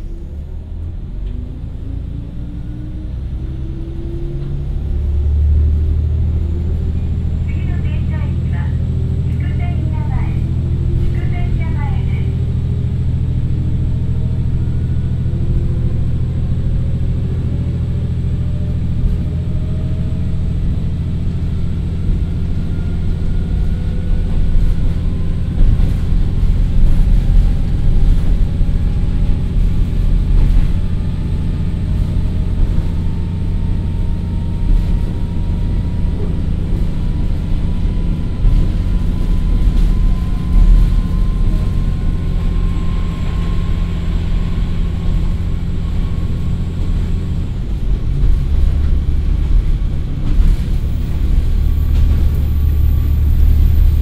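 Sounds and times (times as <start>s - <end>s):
diesel engine drone: 0.0s - 54.0s
rising transmission whine: 0.0s - 54.0s.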